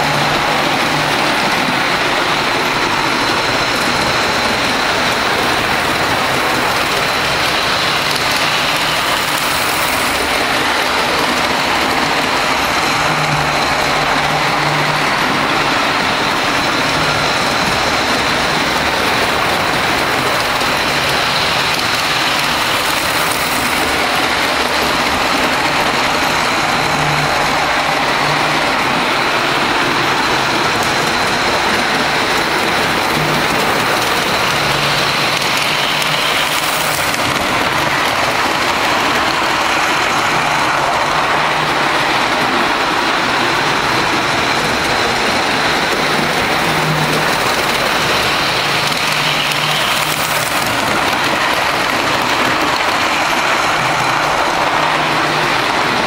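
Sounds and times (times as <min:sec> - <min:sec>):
model train rolling on rails: 0:00.0 - 0:56.0.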